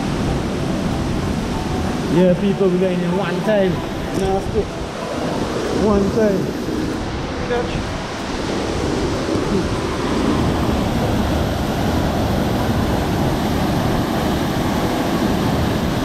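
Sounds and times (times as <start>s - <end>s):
rushing water: 0.0s - 16.0s
wind on microphone: 0.0s - 16.0s.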